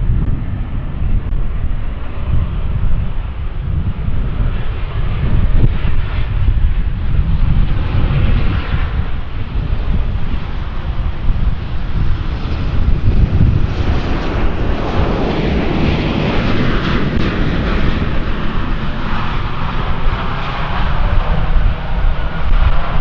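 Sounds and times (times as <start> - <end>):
airliner engines running: 0.0 - 23.0.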